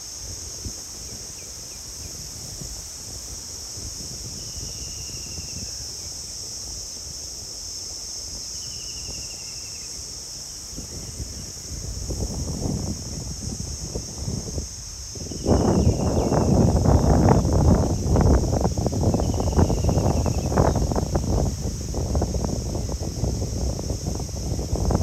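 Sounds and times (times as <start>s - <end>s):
wind rumbling on microphone: 0.0s - 7.3s, 10.6s - 25.0s
high-pitched insect chorus: 0.0s - 25.0s.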